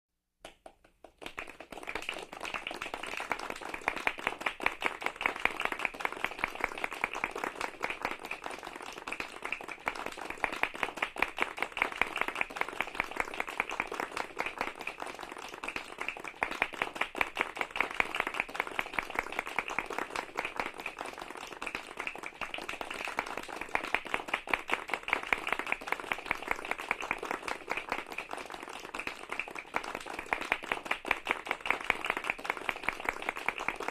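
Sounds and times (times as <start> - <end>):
group applauding: 0.4 - 33.9.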